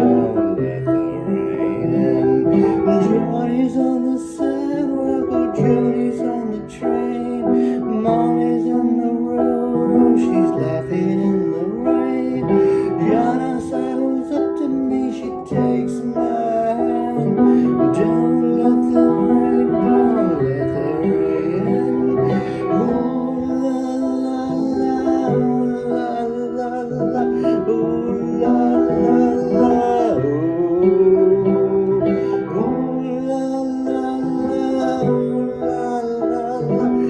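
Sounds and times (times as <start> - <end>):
held keyboard chords: 0.0 - 37.0.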